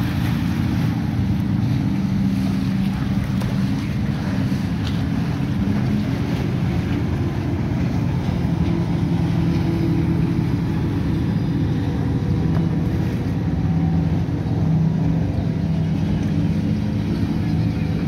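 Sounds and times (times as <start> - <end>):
motorboat engine drone: 0.0 - 18.0.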